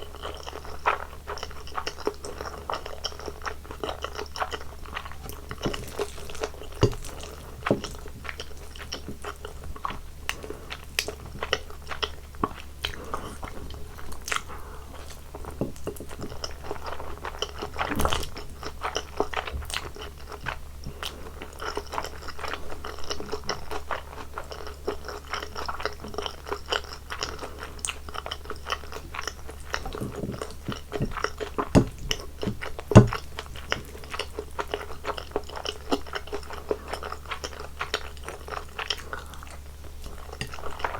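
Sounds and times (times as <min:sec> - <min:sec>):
faint low hum: 0:00.0 - 0:40.9
person chewing wet smacks: 0:00.2 - 0:40.9.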